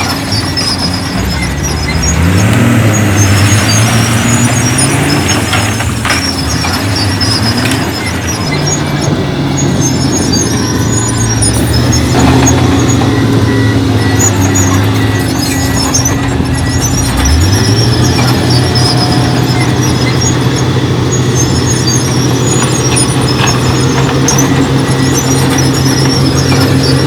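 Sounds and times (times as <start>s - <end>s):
heavy diesel engine revving: 0.0s - 27.0s
high metallic squeaks: 0.0s - 27.0s.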